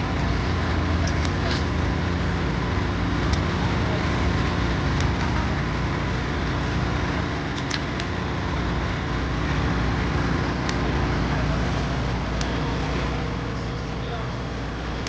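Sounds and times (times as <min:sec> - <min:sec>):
low hum: 0:00.0 - 0:15.0
street market din: 0:00.0 - 0:15.0.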